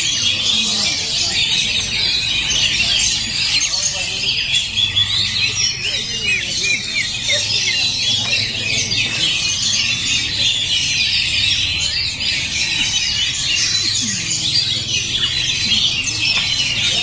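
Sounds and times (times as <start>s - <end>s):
caged birds singing: 0.0s - 17.0s.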